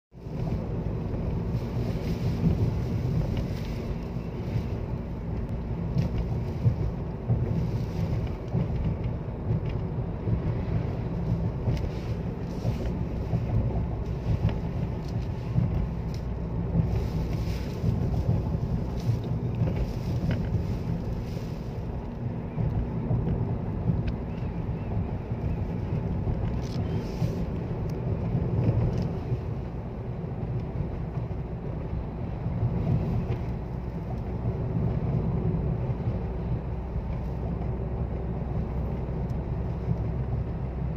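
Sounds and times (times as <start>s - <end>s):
car engine and tyres rumbling: 0.1s - 40.9s
wind gusting against car: 0.1s - 40.9s.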